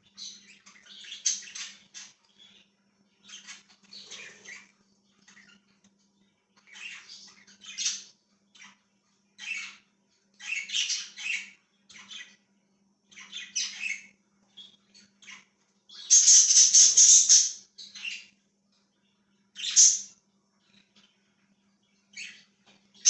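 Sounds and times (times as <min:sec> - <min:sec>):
budgies chirping and chattering: 0:00.0 - 0:23.0.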